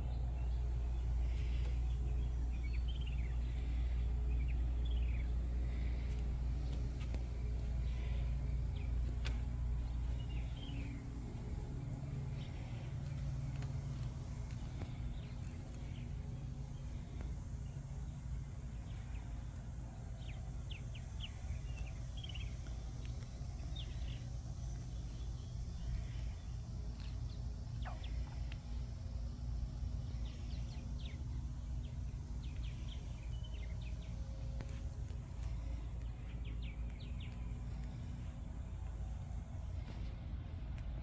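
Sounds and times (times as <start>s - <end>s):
faint steady hum: 0.0s - 41.0s
small birds chirping: 0.0s - 41.0s
steady low rumble: 0.0s - 41.0s.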